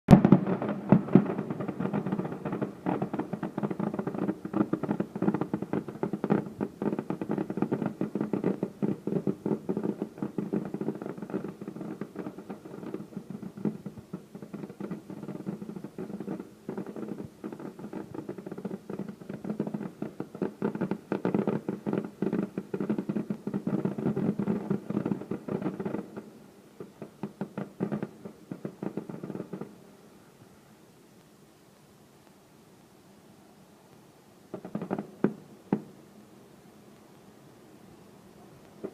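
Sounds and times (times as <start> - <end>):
fireworks bangs and crackles: 0.1 - 30.0, 34.5 - 36.0, 38.6 - 38.9.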